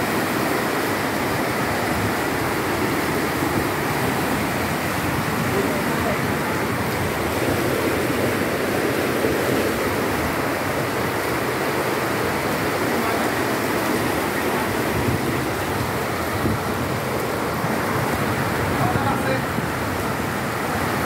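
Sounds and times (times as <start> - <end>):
flood water rushing: 0.0 - 21.0.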